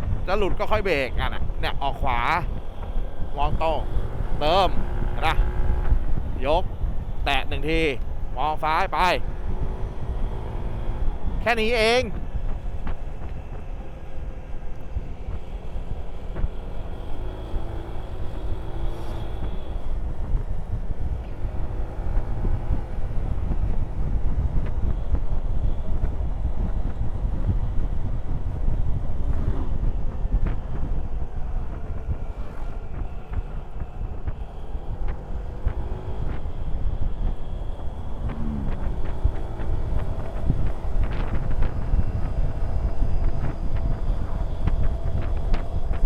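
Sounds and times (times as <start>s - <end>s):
motorcycle engine revving: 0.0s - 46.0s
wind rush on microphone: 0.0s - 46.0s.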